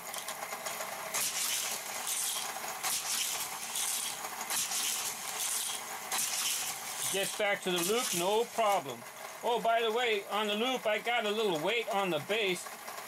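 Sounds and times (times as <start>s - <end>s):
toy car rattling through booster: 0.0s - 13.0s
toy track booster whirring: 0.0s - 13.0s.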